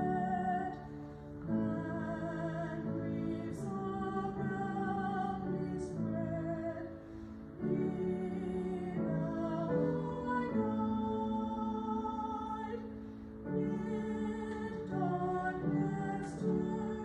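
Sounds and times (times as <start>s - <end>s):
person singing a hymn: 0.0s - 17.0s.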